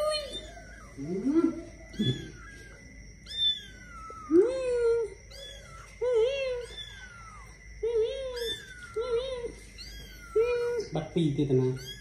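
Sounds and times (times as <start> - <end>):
kittens mewing: 0.0 - 12.0.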